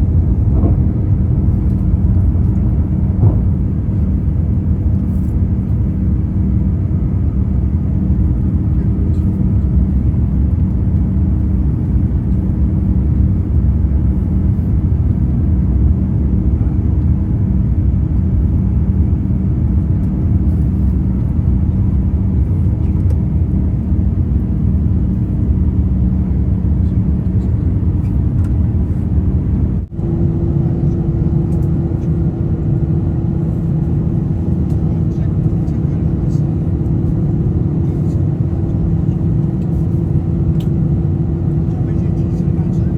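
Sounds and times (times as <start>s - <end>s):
deep engine rumble in airliner cabin: 0.0s - 42.9s
steady hum: 0.0s - 42.9s.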